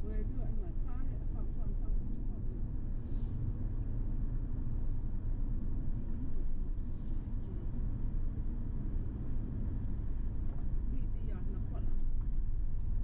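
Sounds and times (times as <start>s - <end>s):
vehicle rumbling on the move: 0.0s - 13.0s.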